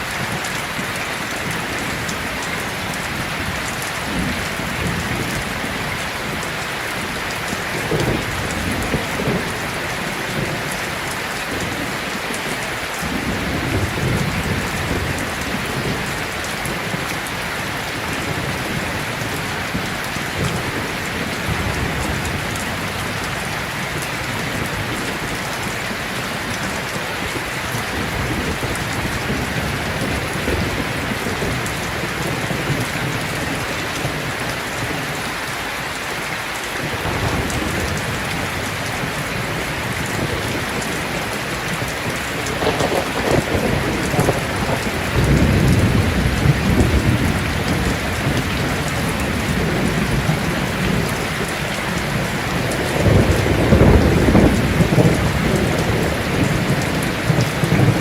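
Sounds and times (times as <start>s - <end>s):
thunder rumbling: 0.0s - 35.5s, 36.8s - 58.0s
heavy rain falling: 0.0s - 58.0s.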